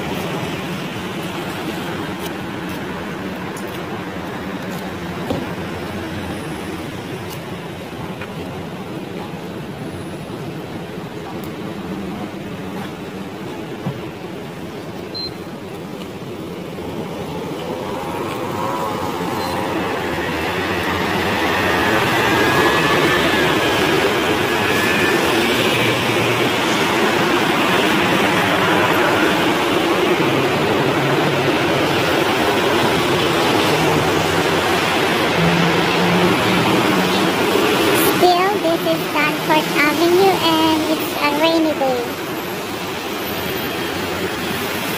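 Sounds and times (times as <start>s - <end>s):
road traffic passing: 0.0s - 44.9s.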